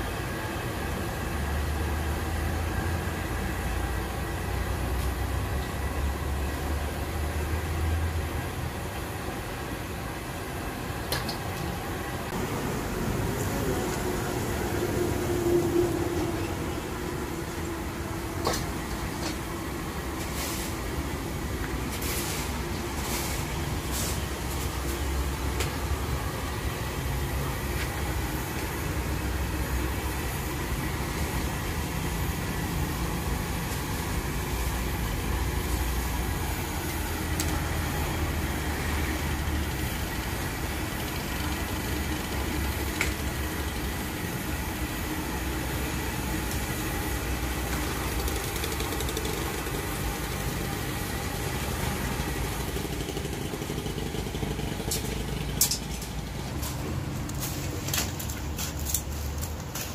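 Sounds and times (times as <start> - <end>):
gas burner rumble: 0.0 - 59.9.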